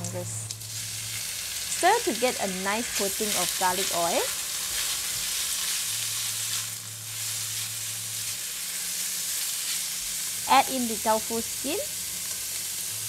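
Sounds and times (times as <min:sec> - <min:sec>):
food sizzling in oil: 0:00.1 - 0:13.0.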